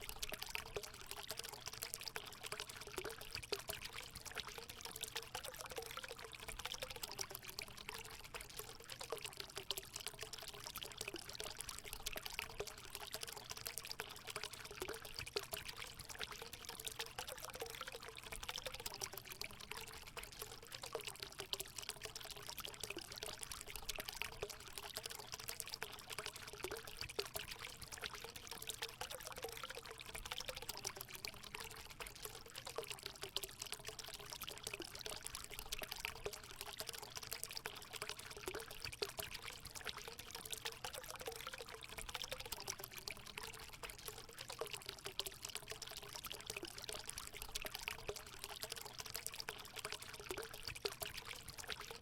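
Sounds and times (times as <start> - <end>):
water pouring into pool: 0.0 - 52.0.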